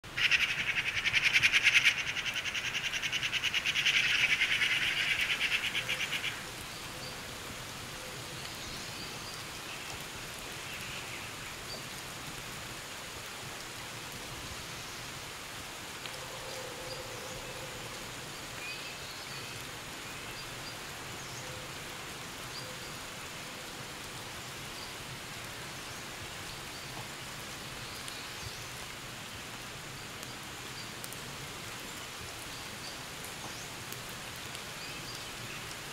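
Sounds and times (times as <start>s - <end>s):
light rain hissing: 0.0s - 35.9s.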